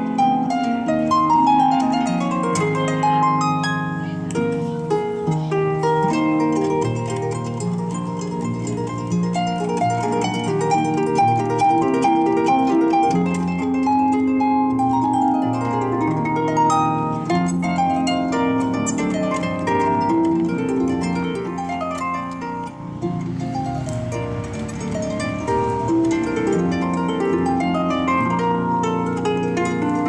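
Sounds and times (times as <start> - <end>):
solo harp playing: 0.0 - 30.0.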